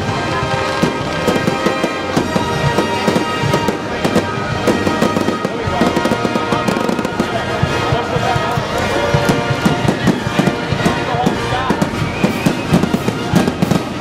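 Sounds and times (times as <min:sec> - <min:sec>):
fireworks bursting: 0:00.0 - 0:14.0
music playing: 0:00.0 - 0:14.0.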